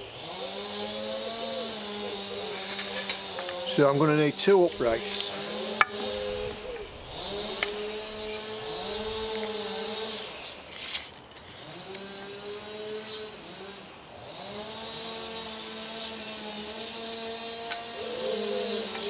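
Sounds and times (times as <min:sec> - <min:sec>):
small engine revving: 0:00.0 - 0:19.0.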